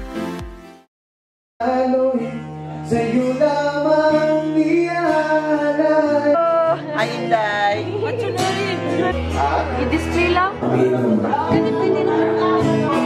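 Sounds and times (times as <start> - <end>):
musical accompaniment with bass: 0.0 - 0.9, 1.6 - 13.0
man singing into a microphone: 1.6 - 13.0.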